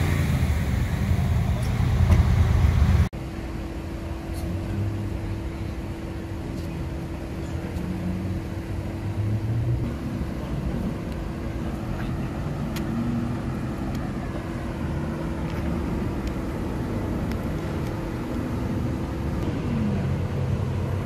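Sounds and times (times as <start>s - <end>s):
car engine running loud and deep: 0.0s - 21.0s
city street traffic hum: 0.0s - 21.0s.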